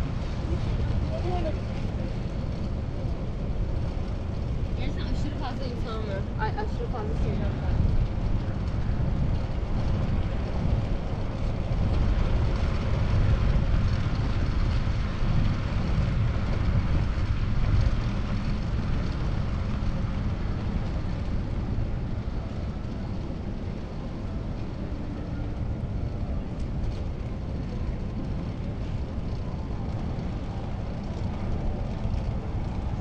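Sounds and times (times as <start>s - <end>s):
road noise: 0.0s - 33.0s
wind rumble on microphone: 0.0s - 33.0s.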